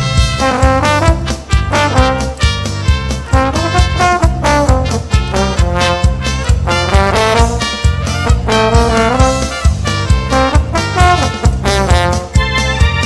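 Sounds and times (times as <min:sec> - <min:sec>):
live dance band playing: 0:00.0 - 0:13.0.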